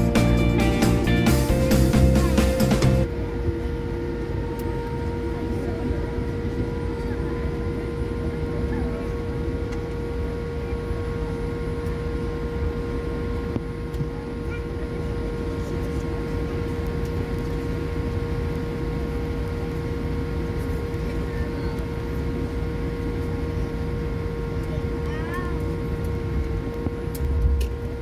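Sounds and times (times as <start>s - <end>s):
constant droning hum: 0.0s - 28.0s
jet engines rumbling: 0.0s - 28.0s.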